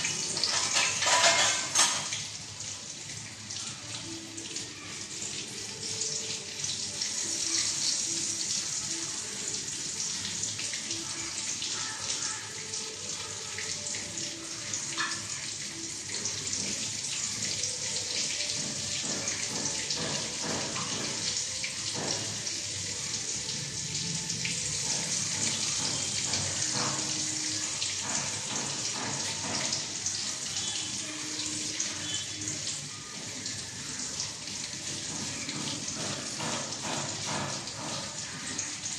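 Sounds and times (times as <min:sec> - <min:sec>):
eggs sizzling in hot oil: 0:00.0 - 0:38.9.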